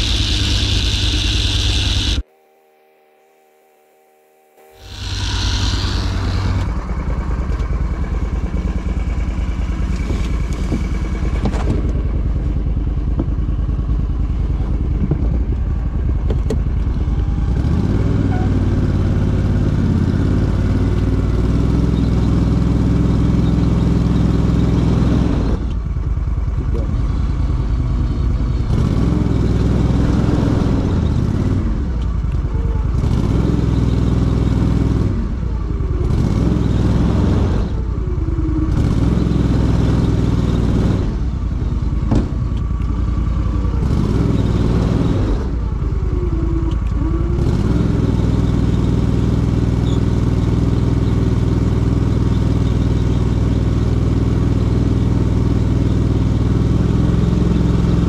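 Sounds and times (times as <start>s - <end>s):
vehicle engine running under load: 0.0s - 2.4s, 4.6s - 58.0s.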